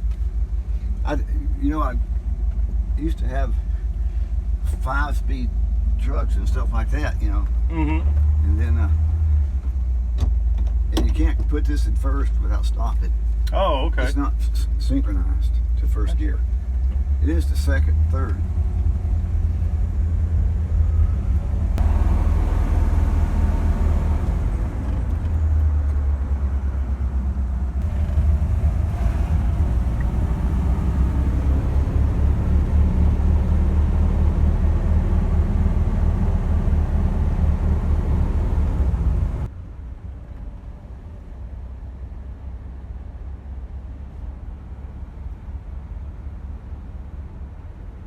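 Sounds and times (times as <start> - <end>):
car engine rumbling: 0.0 - 48.0
road noise: 0.0 - 48.0.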